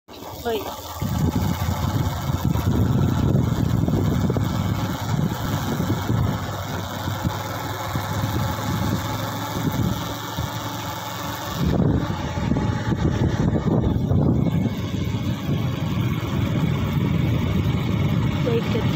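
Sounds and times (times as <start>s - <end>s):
hiss: 0.1s - 18.9s
vehicle engine rumble: 0.1s - 18.9s.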